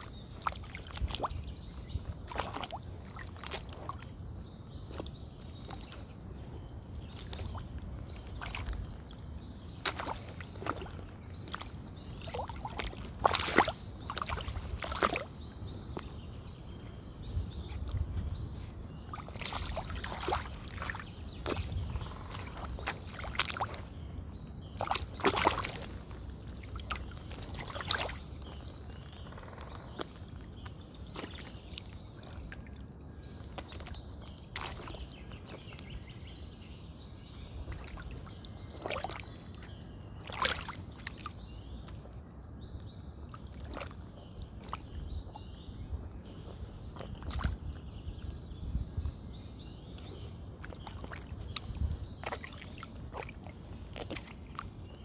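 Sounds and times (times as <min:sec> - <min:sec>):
sneakers splashing in muddy puddle: 0:00.0 - 0:16.2, 0:18.9 - 0:36.3, 0:37.4 - 0:42.2, 0:43.2 - 0:48.3, 0:49.9 - 0:55.0.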